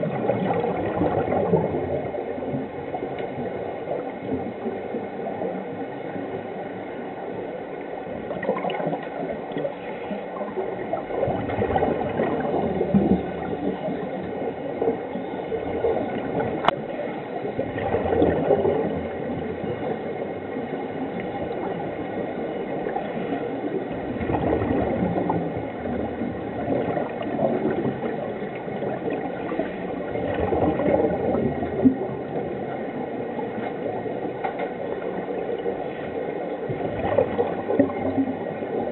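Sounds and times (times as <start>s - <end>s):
underwater regulator bubbles gurgling: 0.0s - 38.9s.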